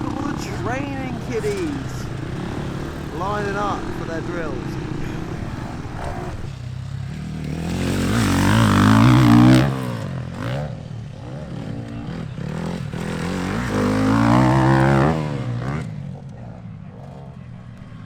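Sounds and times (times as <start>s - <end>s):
motocross bikes revving past: 0.0s - 18.0s.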